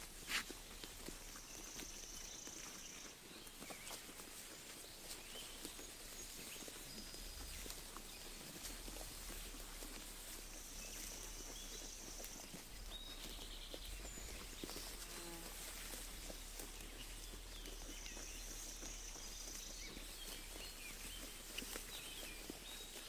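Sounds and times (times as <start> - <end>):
sheep tearing and chewing grass: 0.0 - 23.0
small birds chirping: 0.0 - 23.0.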